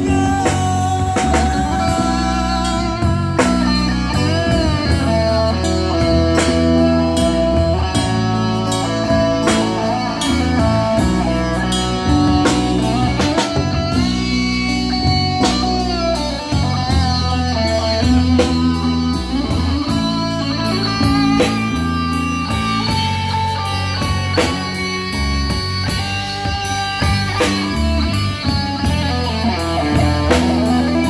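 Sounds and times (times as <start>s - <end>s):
bass guitar: 0.0s - 31.0s
drum kit: 0.0s - 31.0s
electric guitars: 0.0s - 31.0s.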